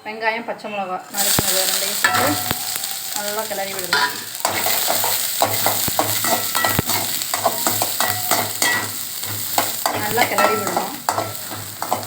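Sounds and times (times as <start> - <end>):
onion sizzling in hot oil: 1.0 - 12.0
spatula scraping a pan: 1.1 - 12.0.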